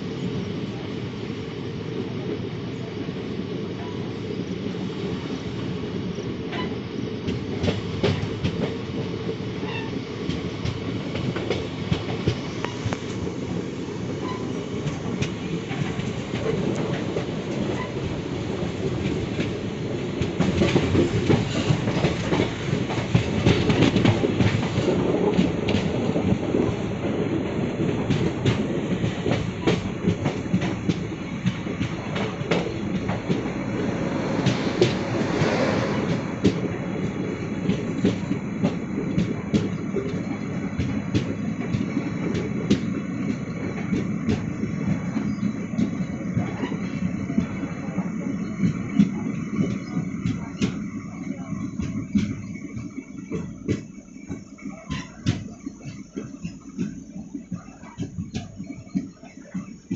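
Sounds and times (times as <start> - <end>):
train wheels clacking on rails: 0.0 - 59.9.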